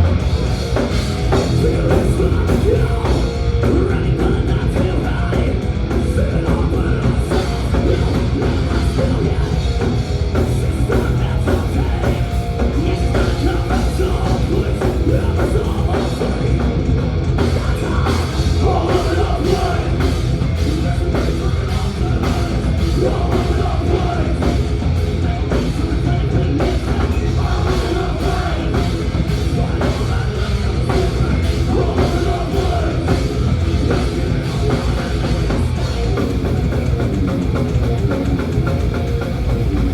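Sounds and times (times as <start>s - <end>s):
bass guitar: 0.0s - 39.9s
distorted electric guitars: 0.0s - 39.9s
pounding drum kit: 0.0s - 39.9s.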